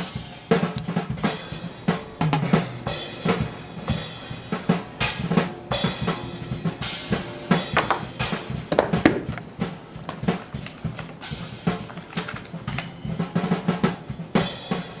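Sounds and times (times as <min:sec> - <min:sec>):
drum kit beat: 0:00.0 - 0:15.0.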